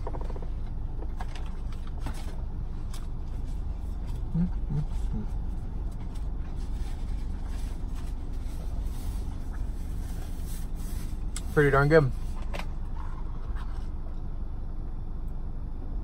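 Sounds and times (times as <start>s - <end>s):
low rumble inside a car: 0.0s - 16.0s
short low hums: 2.2s - 16.0s.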